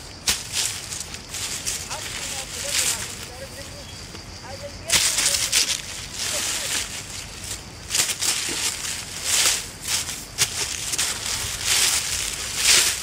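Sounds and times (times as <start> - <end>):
vines rustling and crunching: 0.0 - 4.0, 4.7 - 13.0.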